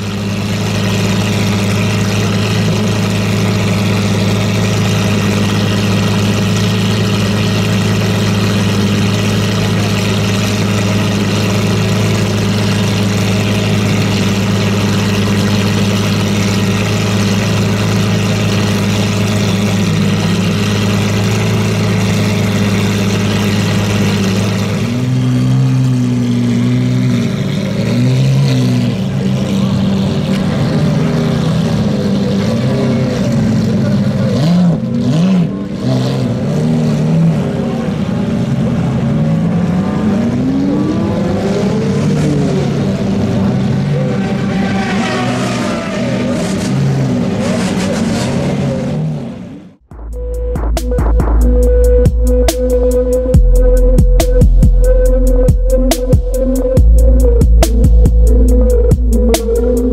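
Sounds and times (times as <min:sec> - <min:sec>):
car engine idling: 0:00.0 - 0:59.9
engine revving: 0:00.0 - 0:59.9.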